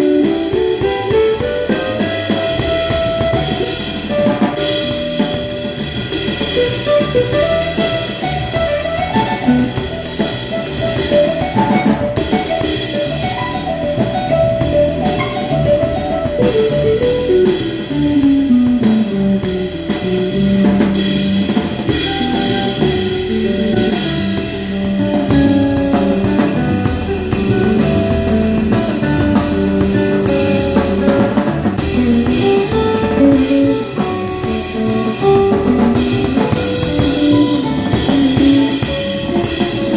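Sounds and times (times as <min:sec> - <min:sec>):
drum kit: 0:00.0 - 0:39.9
guitar melody: 0:00.0 - 0:39.9.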